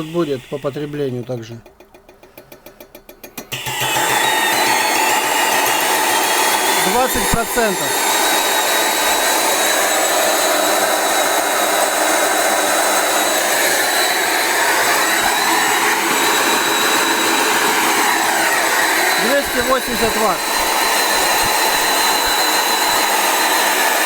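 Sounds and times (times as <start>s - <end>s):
vacuum cleaner motor running: 0.0s - 1.4s, 3.5s - 24.0s.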